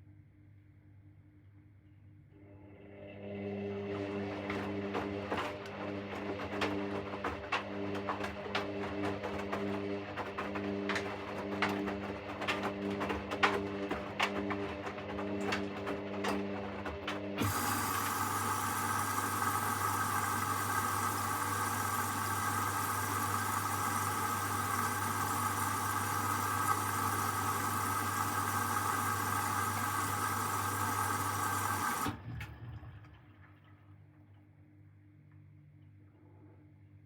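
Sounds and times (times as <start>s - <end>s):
water rushing into washing machine: 2.7s - 33.7s.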